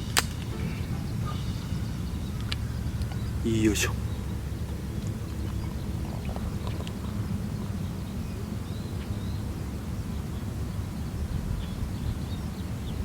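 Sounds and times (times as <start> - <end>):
faint bird chirps: 0.0 - 13.0
steady low rumble: 0.0 - 13.0.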